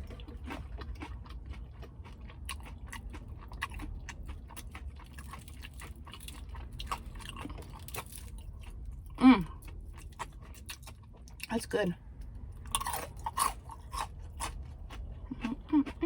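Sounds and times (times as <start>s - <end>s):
chewing crispy food: 0.0s - 16.0s.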